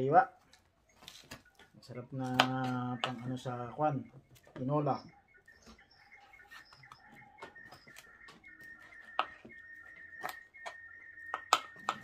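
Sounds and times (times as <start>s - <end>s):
faint steady high tone: 0.0s - 12.0s.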